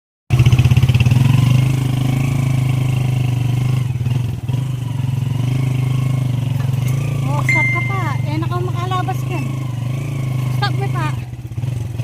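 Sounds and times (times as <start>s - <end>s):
motorcycle engine running: 0.3s - 12.0s.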